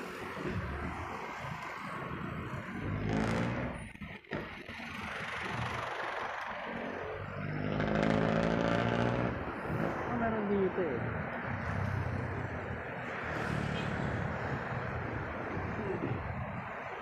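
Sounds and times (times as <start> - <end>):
passing vehicle engines: 0.0 - 17.0
wind and road noise: 0.0 - 17.0.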